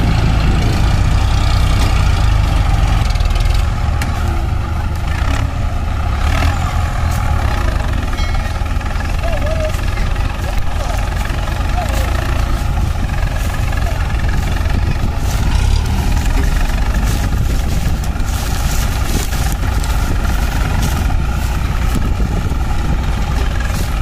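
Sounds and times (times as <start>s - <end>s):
tractor diesel engines under load: 0.0s - 24.0s.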